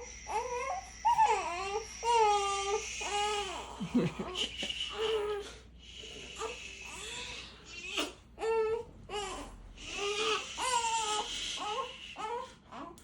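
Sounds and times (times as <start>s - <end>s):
newborn baby crying: 0.0s - 5.6s, 6.4s - 13.0s.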